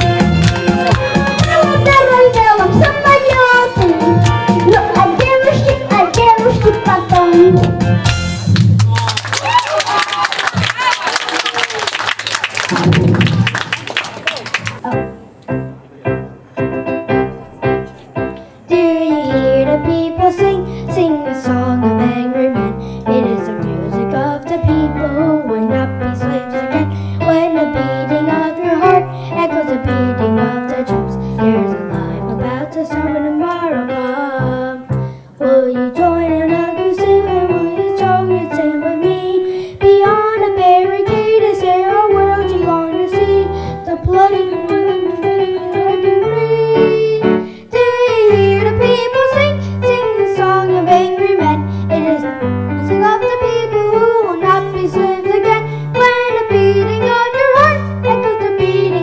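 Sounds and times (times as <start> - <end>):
piano or keyboard: 0.0 - 8.9, 14.7 - 59.0.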